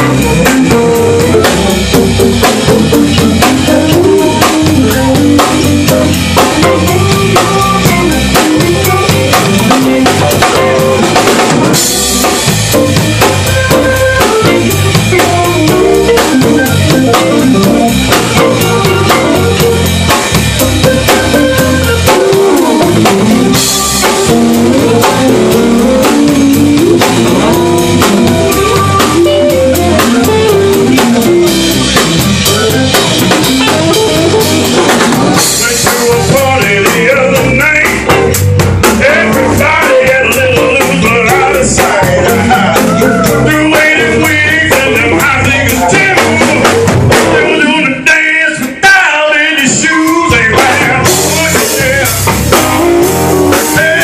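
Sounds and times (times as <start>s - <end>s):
drum kit steady beat: 0.0s - 48.8s, 49.5s - 54.0s
live blues band playing: 0.0s - 54.0s.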